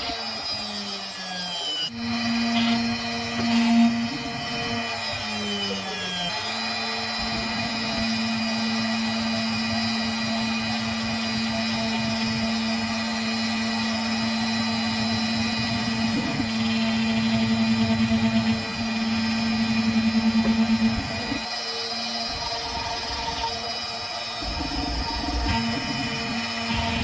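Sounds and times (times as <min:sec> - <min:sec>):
router spindle whining: 0:00.0 - 0:27.0.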